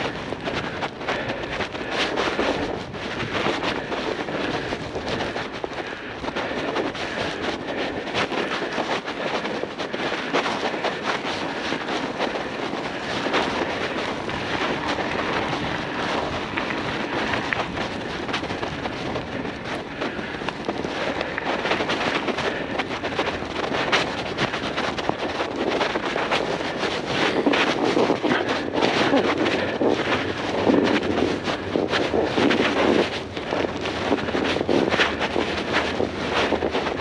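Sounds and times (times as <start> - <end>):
bicycle tyres rolling on snow: 0.0 - 37.0
snow crackling and rattling: 0.0 - 37.0
wind on microphone: 0.0 - 37.0.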